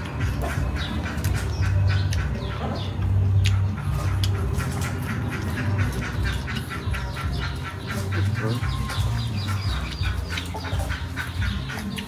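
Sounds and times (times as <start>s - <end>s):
crunchy chewing of green onion: 0.0s - 12.0s.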